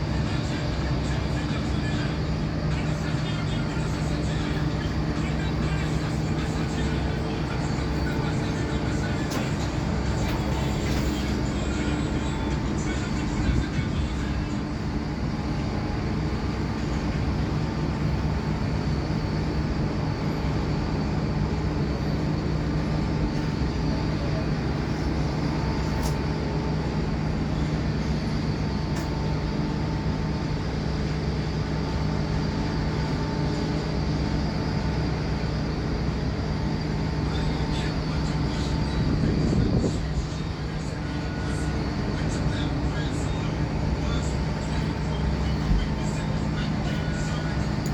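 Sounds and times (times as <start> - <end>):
mechanical drone with low hum: 0.0 - 47.9.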